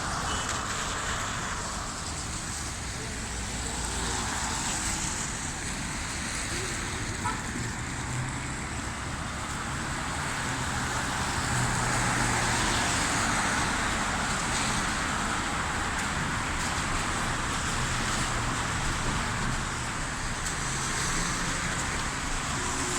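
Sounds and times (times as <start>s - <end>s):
traffic on wet road: 0.0s - 22.9s.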